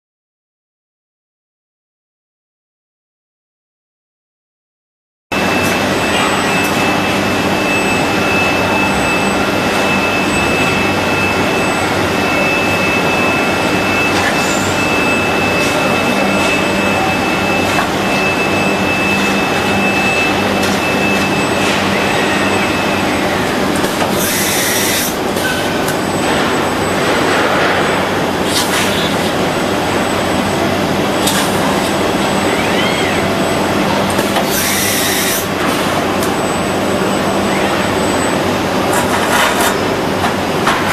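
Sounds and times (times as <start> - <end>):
high steady machine whine: 5.3 - 40.9
machine hum: 5.3 - 40.9.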